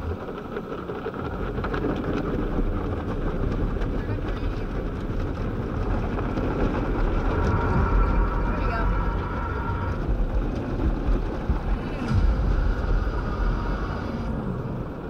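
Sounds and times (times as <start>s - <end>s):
car wash machinery rushing: 0.0s - 15.0s
deep rumble: 0.0s - 15.0s.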